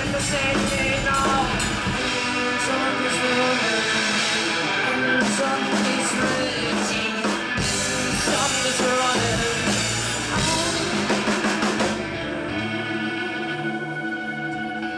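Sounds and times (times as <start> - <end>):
drums and cymbals: 0.0 - 12.2
rock band playing: 0.0 - 14.9.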